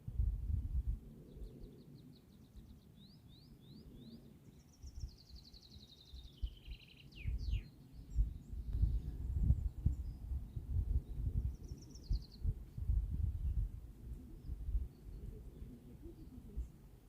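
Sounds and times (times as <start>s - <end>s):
songbird singing trills: 1.3s - 17.0s.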